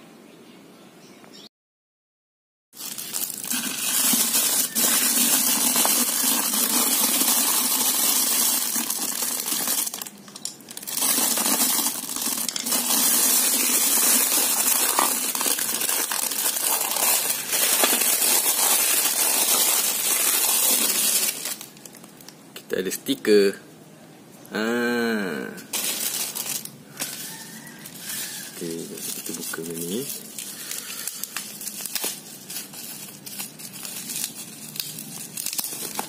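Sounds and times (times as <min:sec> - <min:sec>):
plastic wrapping crinkling and tearing: 0:02.8 - 0:22.4, 0:25.7 - 0:36.0.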